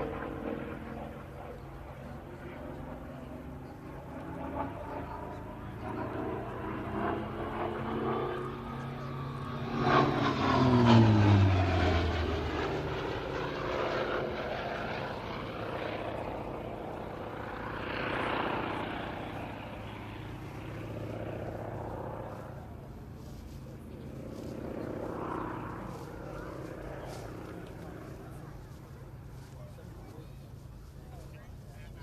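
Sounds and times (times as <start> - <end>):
propeller aircraft passing: 0.0 - 32.0.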